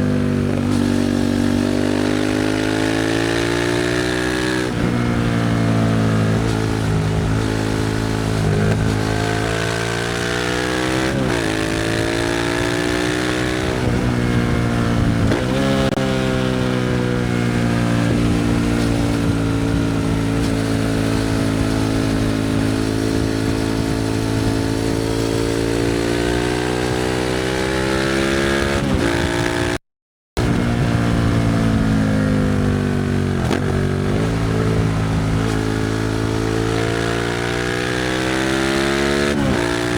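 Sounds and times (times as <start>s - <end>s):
motorcycle engine accelerating: 0.0s - 29.8s, 30.4s - 39.9s.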